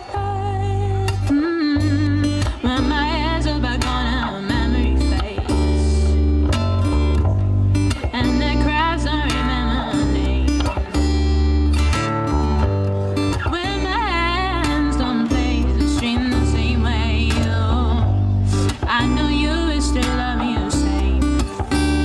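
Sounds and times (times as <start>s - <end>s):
woman singing with vibrato: 0.0s - 6.4s, 8.0s - 11.5s, 13.4s - 21.8s
strummed acoustic guitar: 0.0s - 22.0s.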